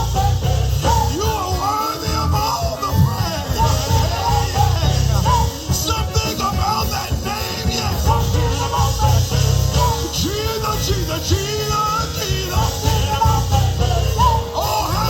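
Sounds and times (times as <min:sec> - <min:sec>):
bass guitar: 0:00.0 - 0:15.0
drums: 0:00.0 - 0:15.0
organ melody: 0:00.0 - 0:15.0.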